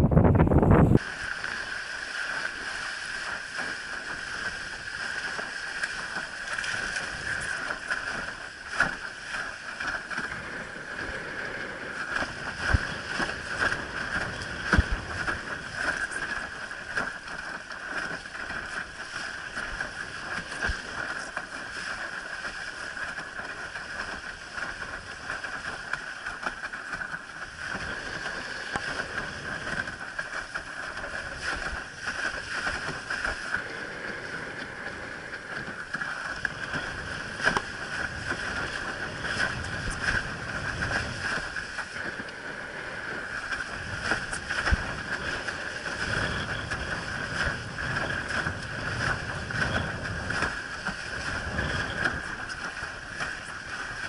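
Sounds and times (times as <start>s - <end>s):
water rushing along board hull: 0.0s - 54.0s
water slapping: 0.1s - 54.0s.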